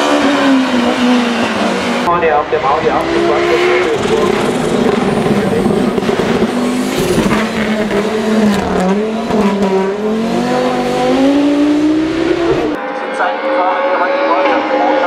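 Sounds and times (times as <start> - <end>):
race car accelerating hard: 0.0 - 15.0.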